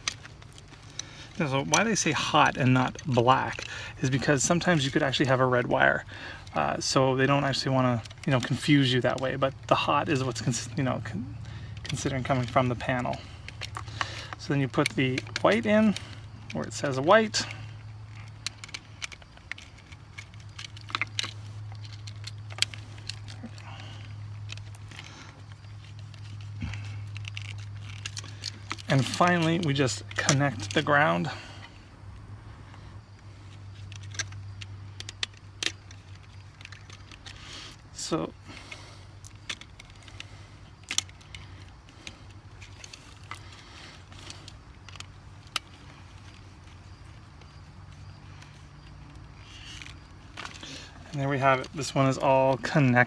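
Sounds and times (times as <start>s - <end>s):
clicks and rattles of wires: 0.0s - 53.0s
steady low hum: 0.0s - 53.0s.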